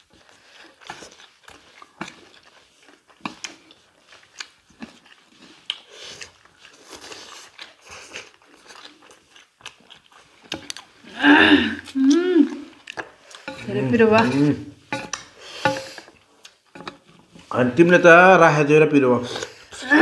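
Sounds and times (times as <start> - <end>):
chewing and slurping noodles: 0.0 - 17.5.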